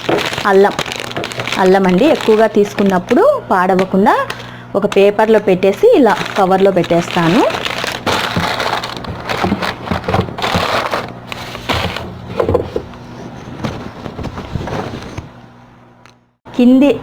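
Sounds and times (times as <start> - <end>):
plastic bag rustling: 0.0 - 15.4.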